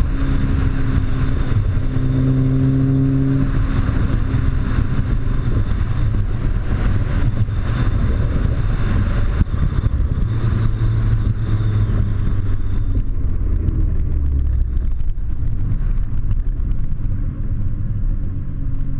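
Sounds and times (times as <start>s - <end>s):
car exhaust low drone: 0.0s - 18.9s.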